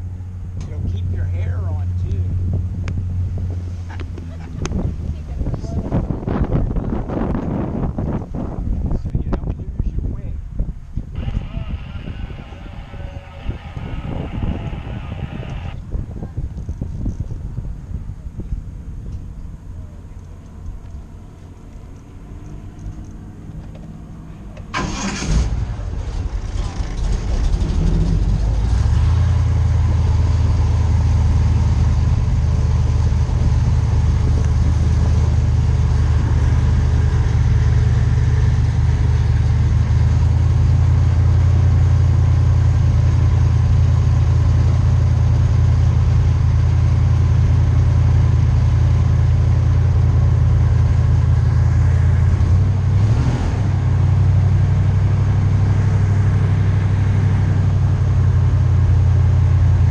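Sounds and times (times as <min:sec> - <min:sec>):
airboat engine and propeller: 0:00.0 - 0:59.9.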